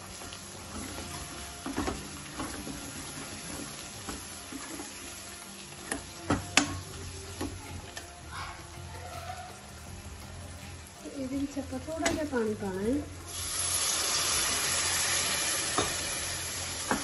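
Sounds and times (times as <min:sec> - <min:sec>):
masala sizzling in pan: 0:00.0 - 0:17.0.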